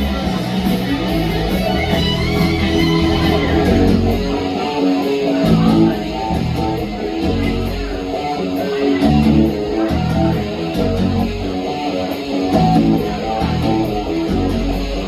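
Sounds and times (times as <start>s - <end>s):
bass guitar: 0.0s - 15.0s
strummed electric guitar: 0.0s - 15.0s.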